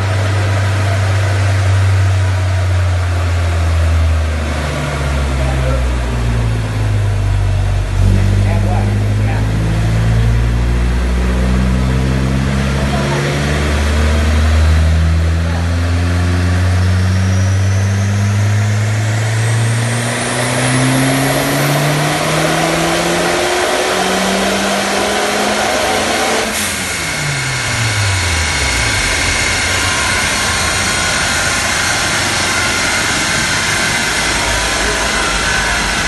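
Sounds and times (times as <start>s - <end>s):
engine revving at full throttle: 0.0s - 36.0s
high turbo whine: 0.0s - 36.0s.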